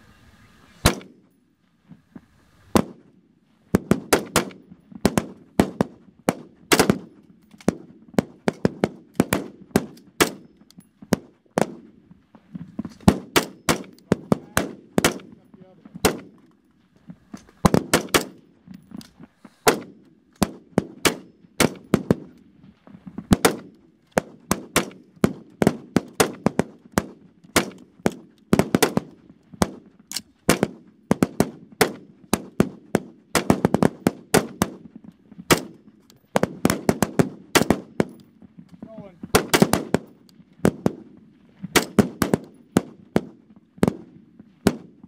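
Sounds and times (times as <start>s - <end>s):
rifle shots echoing: 0.8s - 1.4s, 2.7s - 3.1s, 3.7s - 12.0s, 12.8s - 16.5s, 17.6s - 18.5s, 19.6s - 22.3s, 23.3s - 34.9s, 35.5s - 38.2s, 38.9s - 41.1s, 41.7s - 45.0s.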